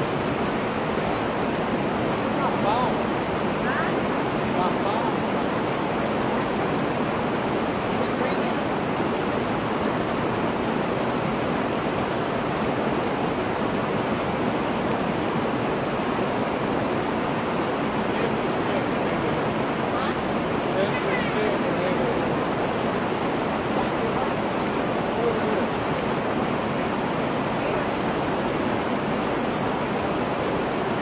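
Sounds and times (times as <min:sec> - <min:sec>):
water rushing over rock ledges: 0:00.0 - 0:31.0.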